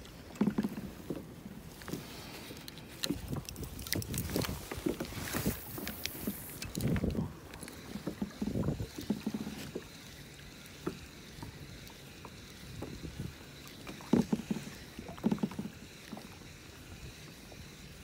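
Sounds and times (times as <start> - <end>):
water lapping against hull: 0.0 - 18.0.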